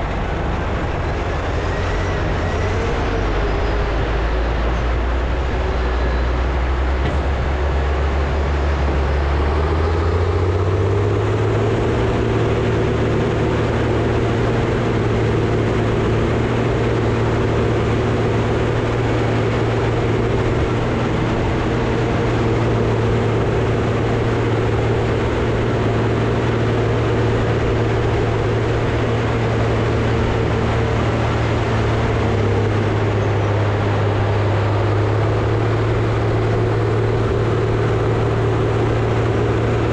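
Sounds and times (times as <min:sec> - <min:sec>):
diesel engine running hard: 0:00.0 - 0:39.9.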